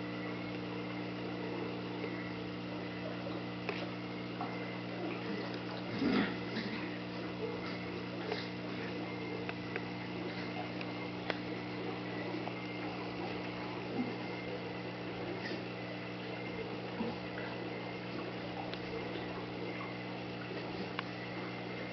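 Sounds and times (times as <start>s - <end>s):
aquarium pump hum: 0.0s - 21.9s.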